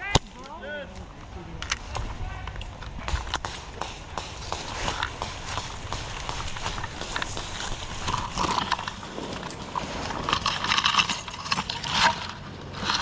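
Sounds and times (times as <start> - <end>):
crunching footsteps: 0.4 - 13.0.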